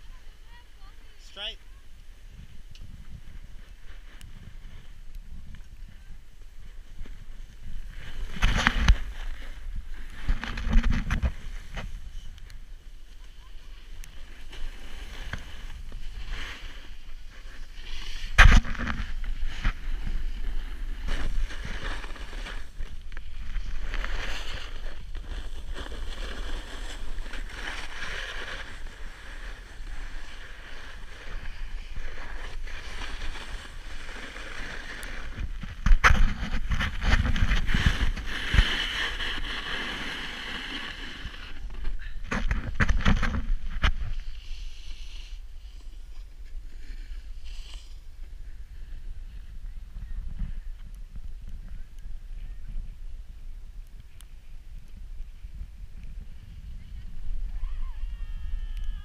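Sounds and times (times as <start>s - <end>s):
snowboard scraping over snow: 0.0s - 49.4s.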